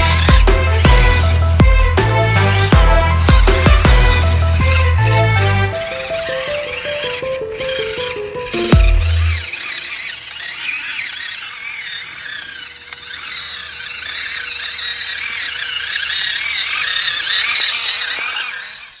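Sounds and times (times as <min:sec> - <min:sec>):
toy vehicle motor whining: 0:00.0 - 0:19.0.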